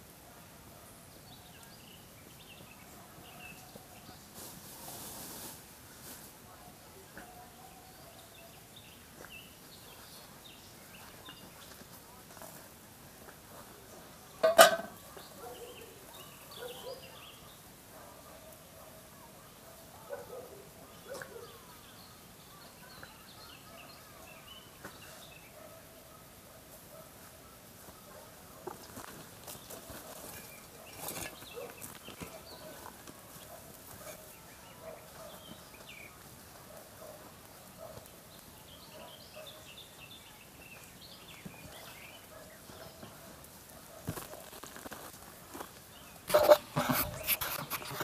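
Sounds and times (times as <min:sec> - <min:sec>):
small birds chirping: 0:00.6 - 0:48.0.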